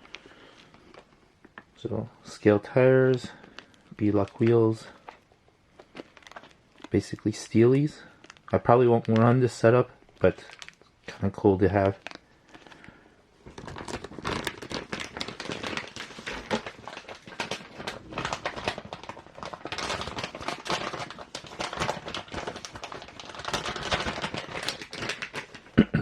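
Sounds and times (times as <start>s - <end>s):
plastic packaging crinkling: 0.0s - 1.8s, 2.4s - 25.8s.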